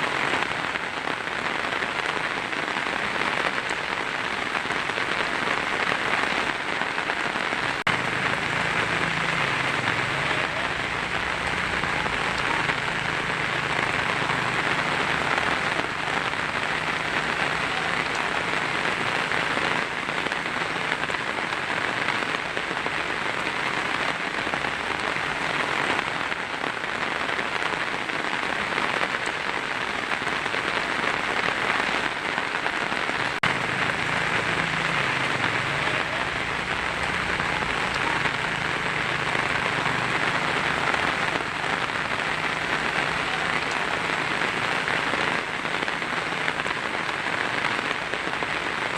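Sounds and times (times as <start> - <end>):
heavy rain on a tin roof: 0.0 - 48.9.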